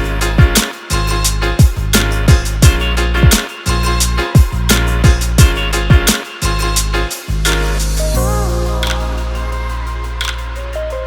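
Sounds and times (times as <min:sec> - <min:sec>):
upbeat music with bass and drums: 0:00.0 - 0:11.0.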